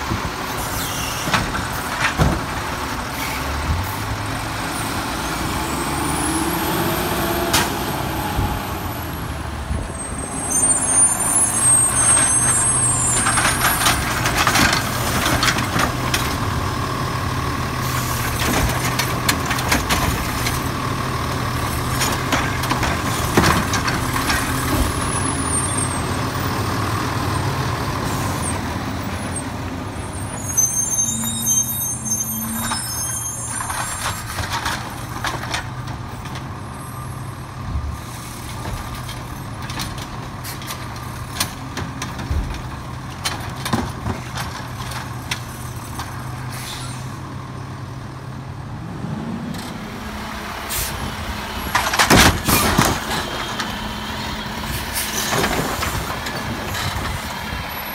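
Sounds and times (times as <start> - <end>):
garbage truck diesel engine: 0.0 - 57.9.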